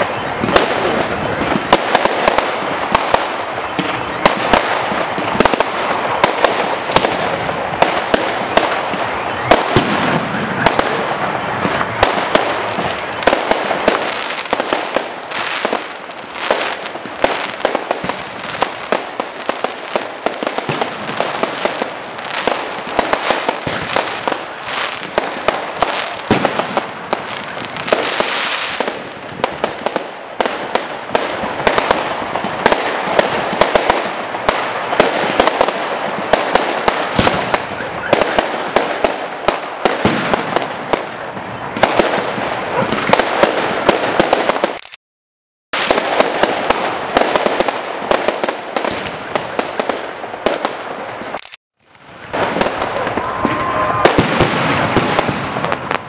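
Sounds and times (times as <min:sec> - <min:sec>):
fireworks cracks and bangs: 0:00.0 - 0:45.0, 0:45.8 - 0:56.0
fireworks hissing crackle: 0:00.0 - 0:45.0, 0:45.8 - 0:56.0.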